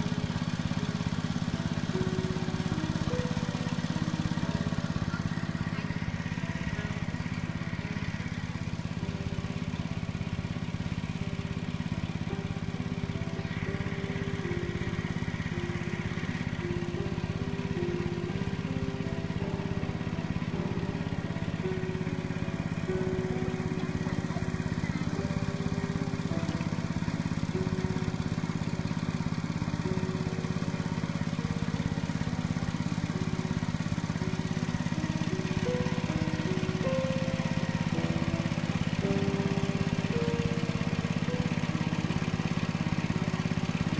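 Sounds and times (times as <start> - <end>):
slow melody of held notes: 0.0 - 43.9
steady low drone: 1.4 - 43.9.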